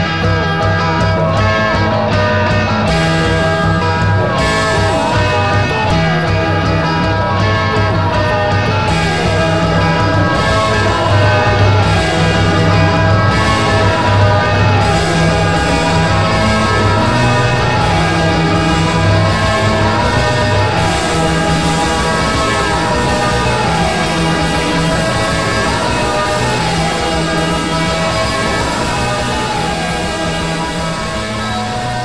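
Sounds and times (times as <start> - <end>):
loud rock music: 0.0 - 32.0.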